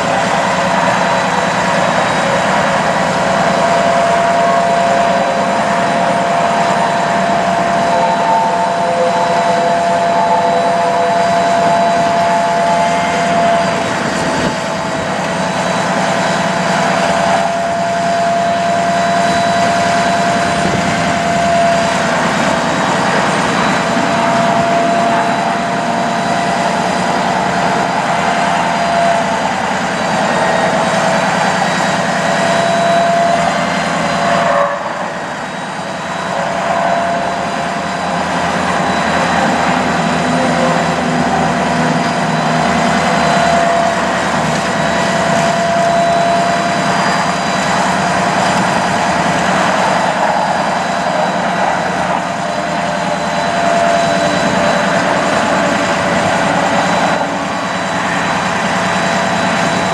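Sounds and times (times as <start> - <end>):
hydraulic whine: 0.0 - 59.9
truck engine running: 0.0 - 59.9.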